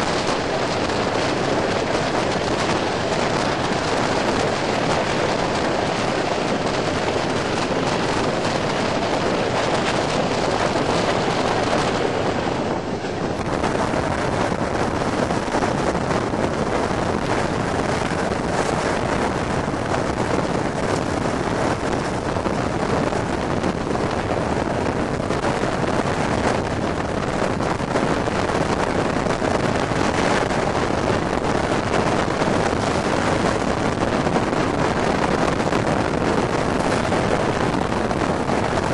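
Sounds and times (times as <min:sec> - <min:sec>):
train running noise: 0:00.0 - 0:38.9
wind rushing over microphone: 0:00.0 - 0:38.9.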